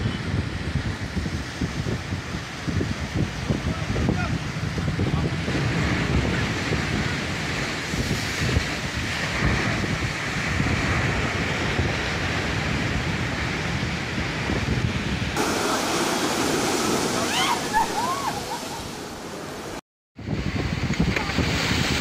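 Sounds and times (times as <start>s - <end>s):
rush of water: 0.0s - 22.0s
wind buffeting microphone: 0.0s - 22.0s
surf crashing against seawall: 0.5s - 22.0s.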